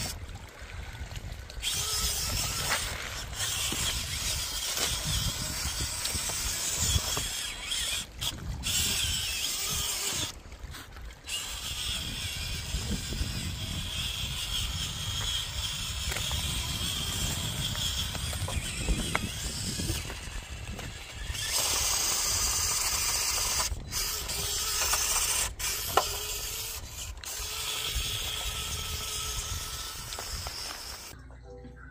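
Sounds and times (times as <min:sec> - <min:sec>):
toy car motor whining: 0:01.6 - 0:31.2.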